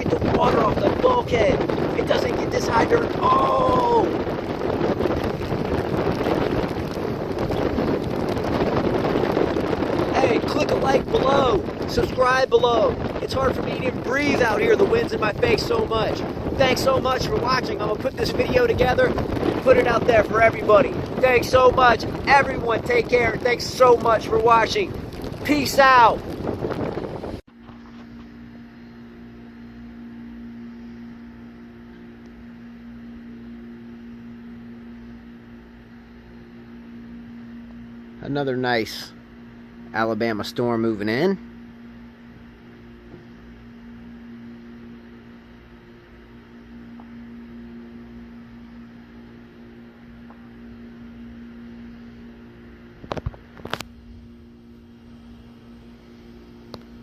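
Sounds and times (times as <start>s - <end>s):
low hum with held tones: 0.0s - 57.0s.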